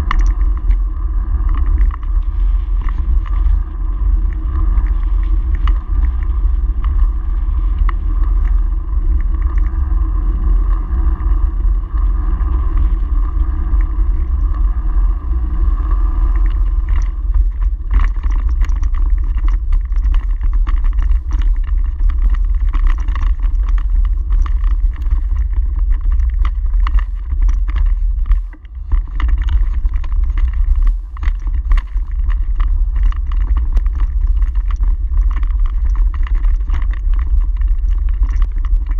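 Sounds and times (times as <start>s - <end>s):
bicycle rattling on cobblestones: 0.0s - 38.9s
wind buffeting microphone: 0.0s - 38.9s.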